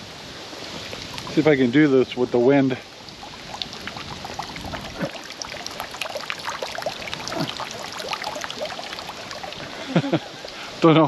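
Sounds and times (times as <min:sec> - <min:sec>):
water trickling down rocks: 0:00.0 - 0:11.0
water drips and plops: 0:00.5 - 0:11.0.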